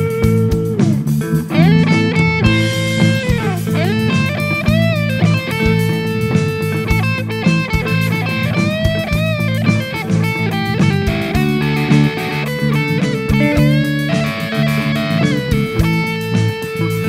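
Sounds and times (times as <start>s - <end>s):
electric guitar music with bent notes: 0.0s - 17.0s.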